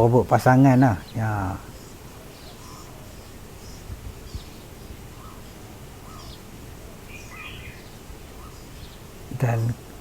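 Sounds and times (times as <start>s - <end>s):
bird calls and chirps: 0.0s - 10.0s
outdoor background hiss: 0.0s - 10.0s.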